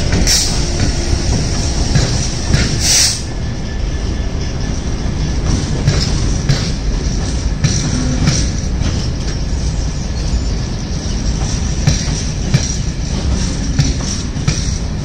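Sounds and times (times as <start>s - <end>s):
train wagons rumbling: 0.0s - 15.0s.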